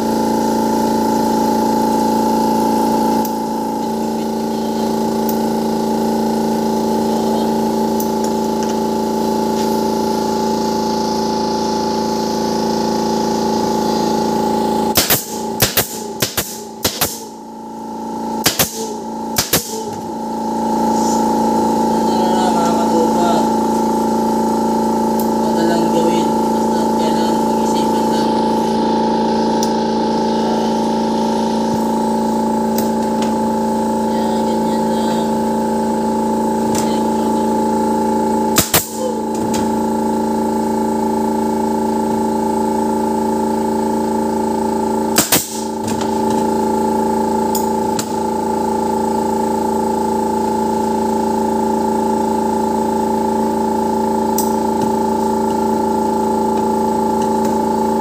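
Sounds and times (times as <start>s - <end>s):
steady hum of held tones: 0.0s - 58.0s.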